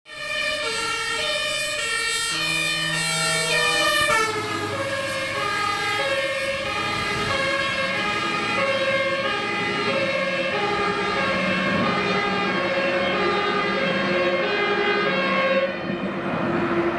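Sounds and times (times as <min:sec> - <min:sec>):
fire engine two-tone siren: 0:00.1 - 0:16.9.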